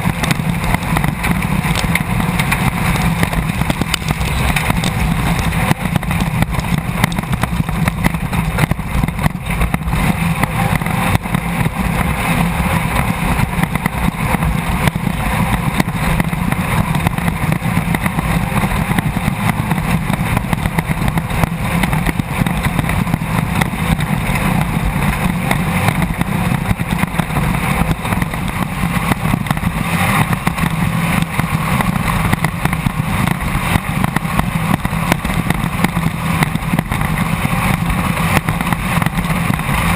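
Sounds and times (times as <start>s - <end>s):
race car engine under load: 0.0s - 39.9s
road noise: 0.0s - 39.9s
wind noise: 0.0s - 39.9s.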